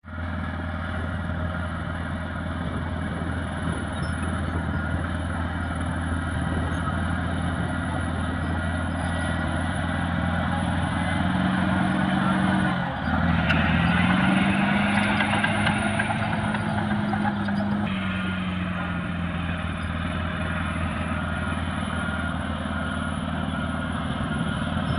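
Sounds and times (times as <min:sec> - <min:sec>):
bulldozer diesel engine running: 0:00.0 - 0:24.9.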